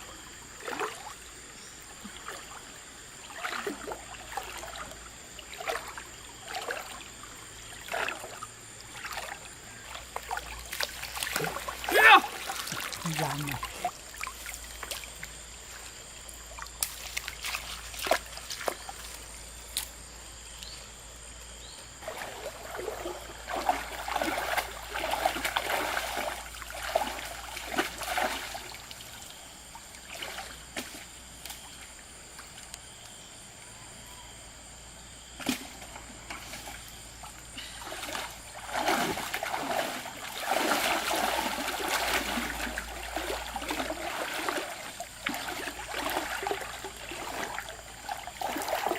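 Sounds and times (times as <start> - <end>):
water trickling: 0.0 - 19.6, 21.9 - 33.1, 36.1 - 48.9
stream water splashing: 0.0 - 33.5, 35.1 - 48.9.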